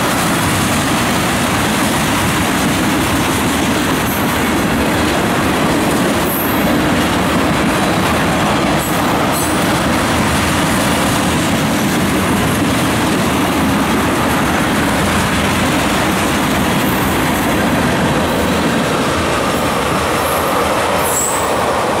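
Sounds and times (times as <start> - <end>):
freight train wheels clattering on rails: 0.0 - 22.0.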